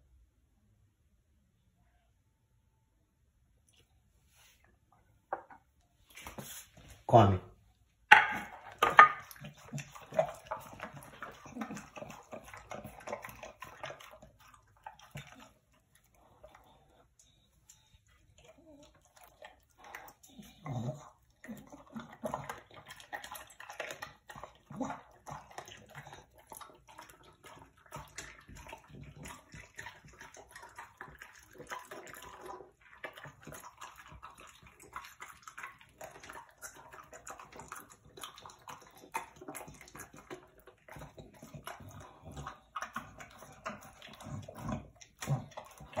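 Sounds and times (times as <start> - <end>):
dog chewing and smacking: 8.1 - 46.0
jaw and mouth clicks: 8.7 - 46.0.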